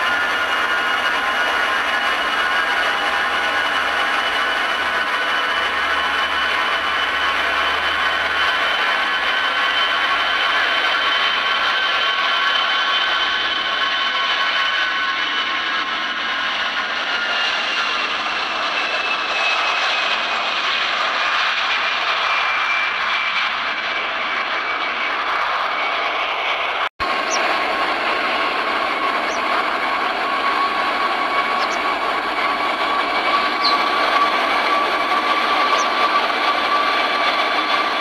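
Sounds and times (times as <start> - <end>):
jet engines at take-off power: 0.0 - 38.0.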